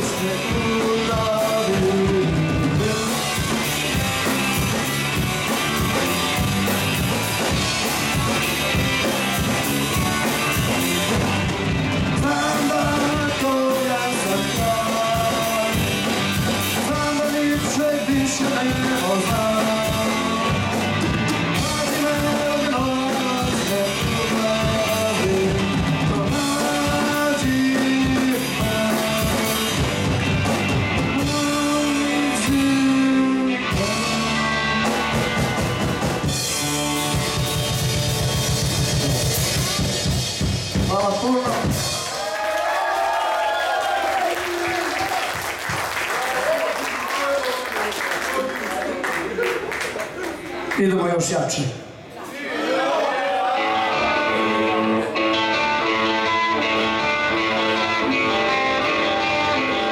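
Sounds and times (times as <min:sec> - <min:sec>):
rock band playing live: 0:00.0 - 0:43.0, 0:53.4 - 0:59.9.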